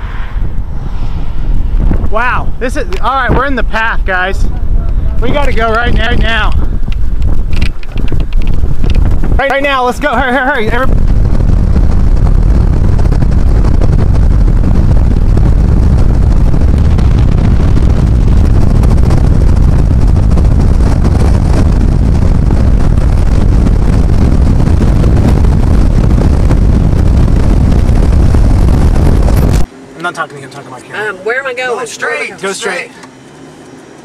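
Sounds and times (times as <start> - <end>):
wind buffeting microphone: 0.0 - 29.7
car road noise: 0.0 - 34.0.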